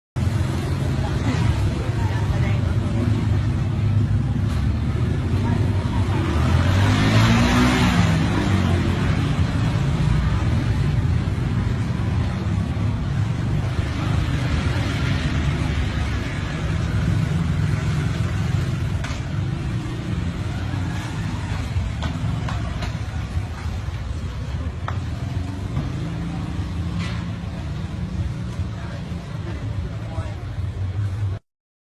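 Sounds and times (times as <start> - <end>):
low rumble of street traffic: 0.2 - 31.4.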